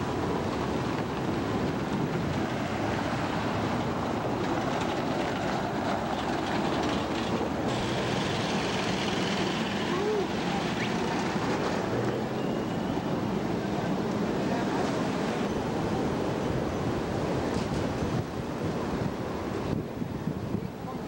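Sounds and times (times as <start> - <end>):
street traffic rumble: 0.0 - 21.0
wind buffeting microphone: 0.0 - 21.0.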